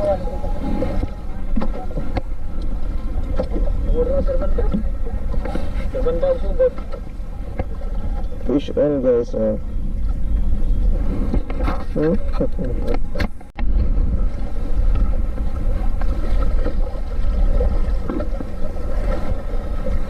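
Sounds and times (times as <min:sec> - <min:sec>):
open sea noise: 0:00.0 - 0:20.0
wind rumble on microphone: 0:00.0 - 0:20.0.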